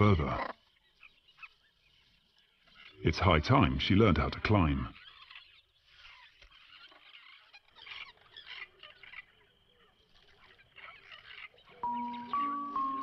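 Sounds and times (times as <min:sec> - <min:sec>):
birds chattering: 0:00.0 - 0:13.0.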